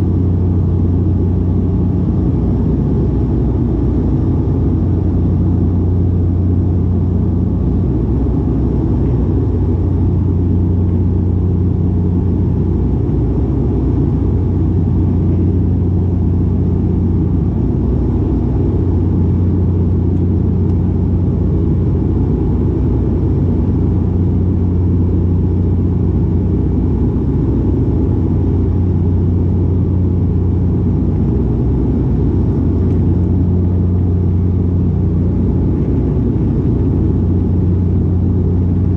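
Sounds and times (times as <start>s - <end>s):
propeller drone in cabin: 0.0s - 38.9s.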